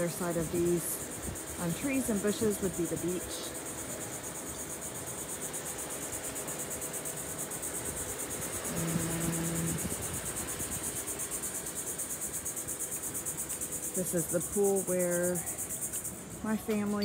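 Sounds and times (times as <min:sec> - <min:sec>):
insect chorus trilling: 0:00.0 - 0:17.0.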